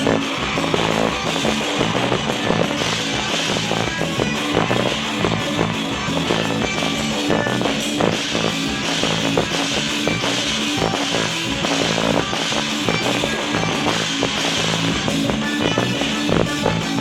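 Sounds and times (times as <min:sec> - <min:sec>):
festive band music: 0:00.0 - 0:17.0.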